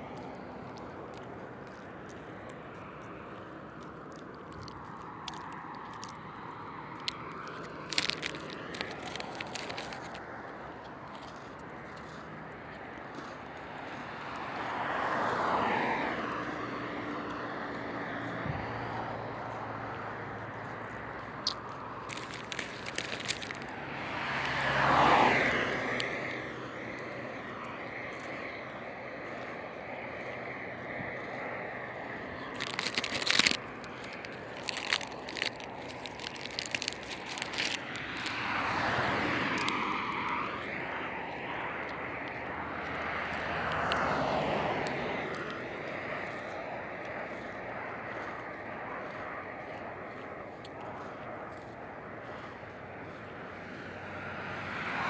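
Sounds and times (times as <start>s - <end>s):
crunchy clicks: 0.0s - 14.0s, 20.0s - 26.2s, 27.0s - 52.5s
road traffic noise: 0.0s - 55.0s
vehicle passing: 0.0s - 55.0s.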